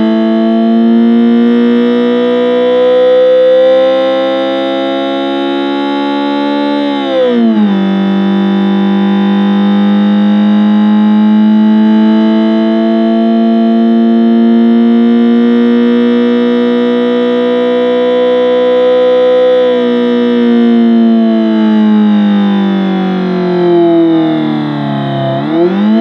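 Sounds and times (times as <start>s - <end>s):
electronic engine sound drone: 0.0s - 26.0s.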